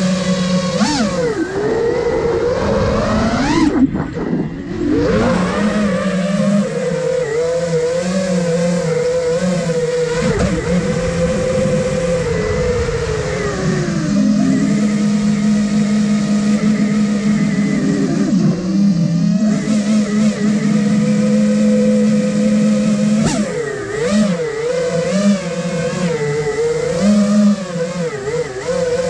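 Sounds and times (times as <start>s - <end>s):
drone motors whining: 0.0s - 29.0s.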